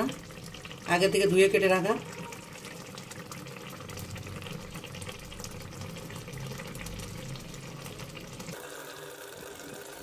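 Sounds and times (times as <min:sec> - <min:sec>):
broth bubbling in a pot: 0:00.0 - 0:10.0.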